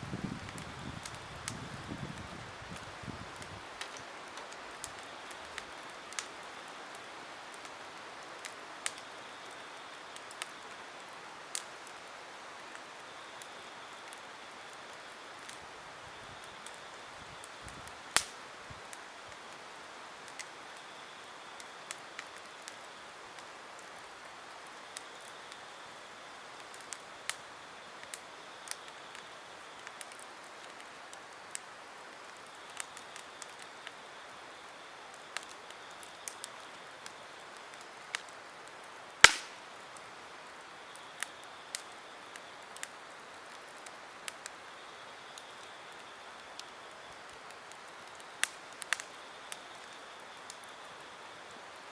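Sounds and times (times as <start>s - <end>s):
campfire crackling pops: 0.0s - 51.9s
fire low hiss: 0.0s - 51.9s.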